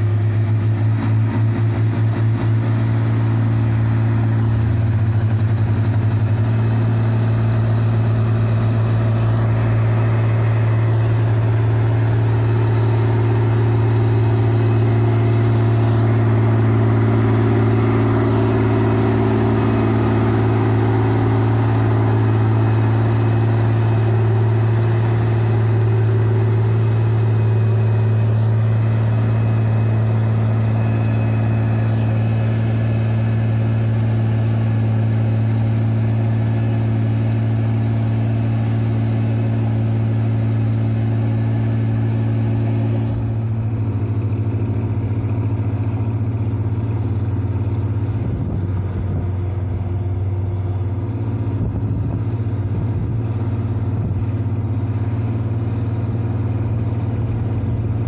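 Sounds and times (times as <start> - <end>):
tractor engine droning: 0.0 - 58.0.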